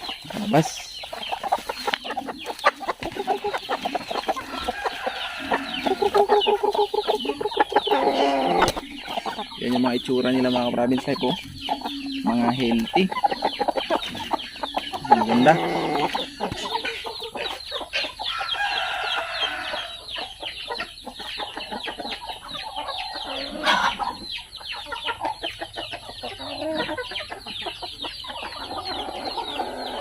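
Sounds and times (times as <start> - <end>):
chickens clucking and calling: 0.0 - 30.0.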